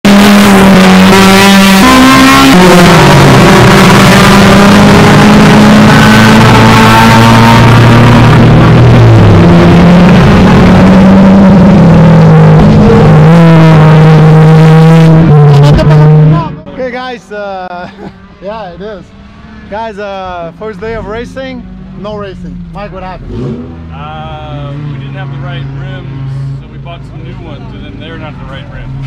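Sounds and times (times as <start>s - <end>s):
racing car engine: 0.1s - 29.0s.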